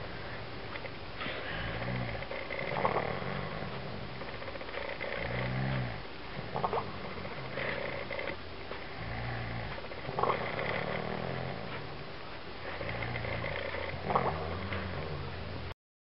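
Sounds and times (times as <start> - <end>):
man snoring: 1.3 - 8.4, 9.0 - 11.9, 12.7 - 15.6.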